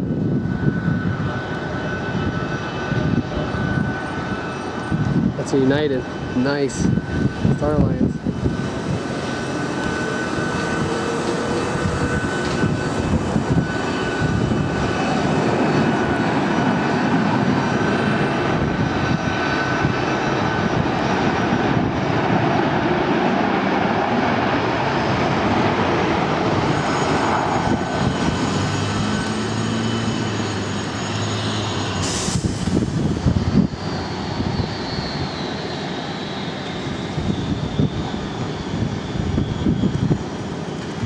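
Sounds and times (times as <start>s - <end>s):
high jet engine whine: 0.0s - 41.0s
jet engines roaring: 0.0s - 41.0s.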